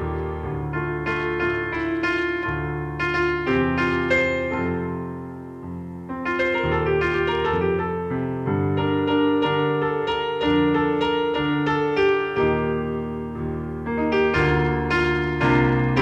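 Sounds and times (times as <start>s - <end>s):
digital piano playing chords: 0.0s - 16.0s.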